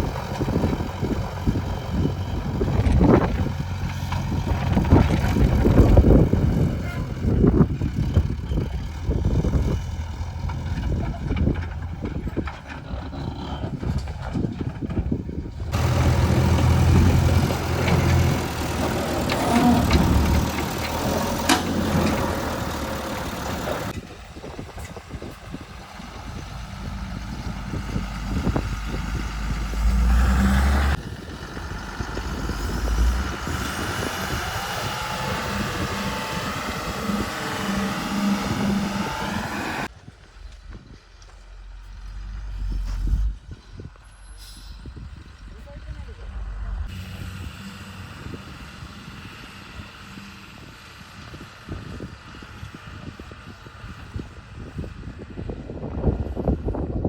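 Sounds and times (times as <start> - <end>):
diesel machinery revving: 0.0 - 56.8.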